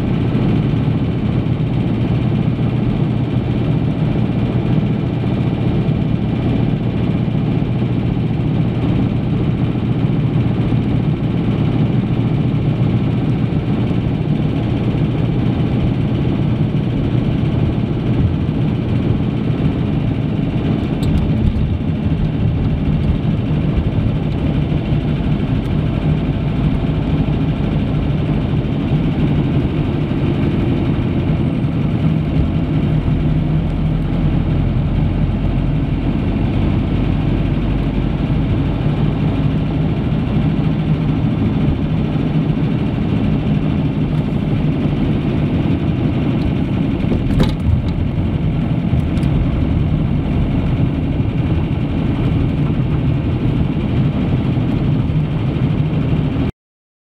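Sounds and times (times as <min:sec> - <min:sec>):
car engine and tyre noise: 0:00.0 - 0:56.5.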